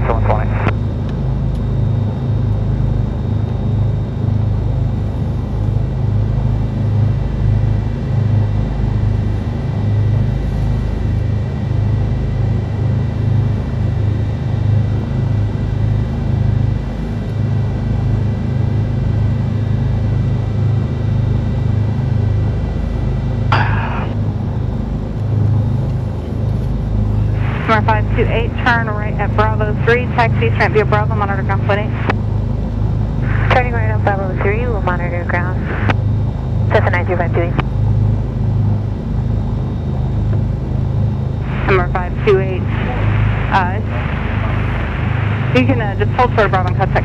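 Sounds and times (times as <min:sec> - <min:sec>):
faint high whine: 0:00.0 - 0:47.0
piston aircraft engines droning: 0:00.0 - 0:47.0.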